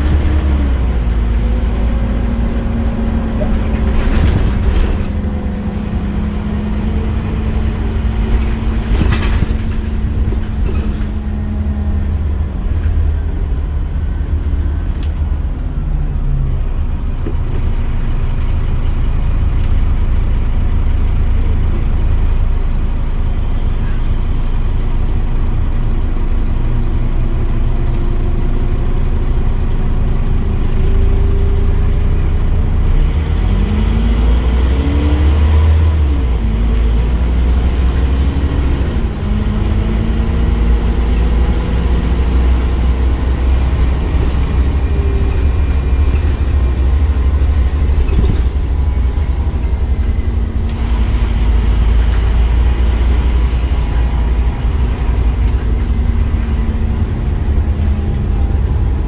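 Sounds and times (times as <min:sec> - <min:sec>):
bus diesel engine rumbling: 0:00.0 - 0:59.0.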